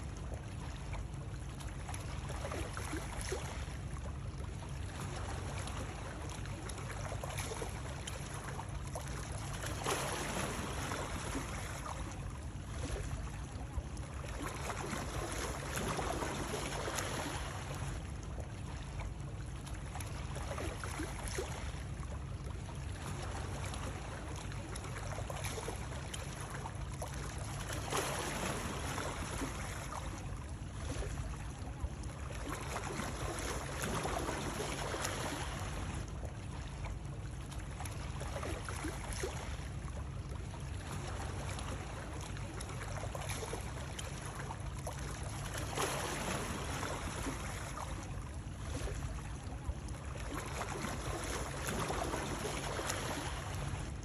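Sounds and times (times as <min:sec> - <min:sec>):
low water rumble: 0:00.0 - 0:54.0.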